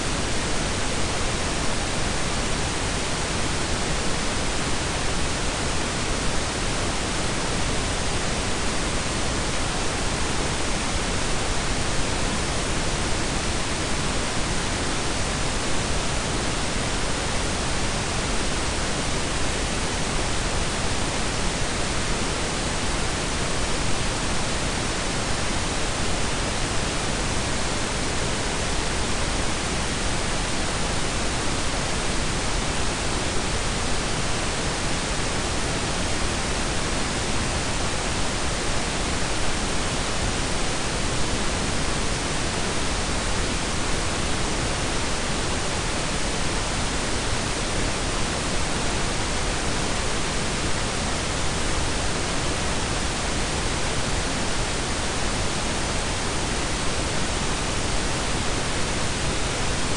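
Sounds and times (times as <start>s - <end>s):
steady hiss with low rumble: 0.0s - 59.9s.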